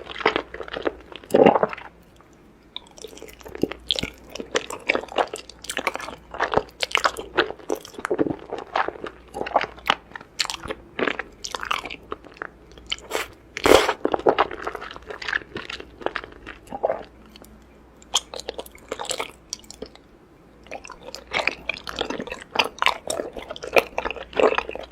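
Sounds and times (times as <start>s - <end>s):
person chewing noodles: 0.0s - 24.9s.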